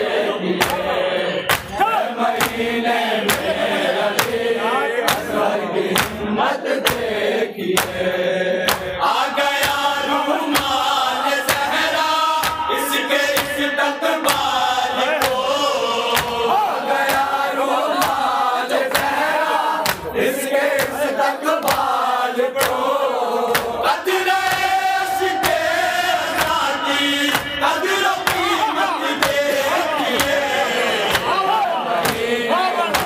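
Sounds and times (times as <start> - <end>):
men chanting together: 0.0 - 33.0
rhythmic chest-beating strikes: 0.0 - 33.0.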